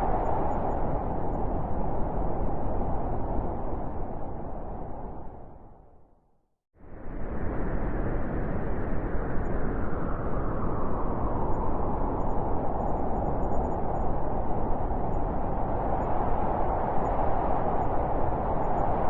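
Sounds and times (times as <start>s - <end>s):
blizzard wind blowing: 0.0s - 6.1s, 6.8s - 19.0s.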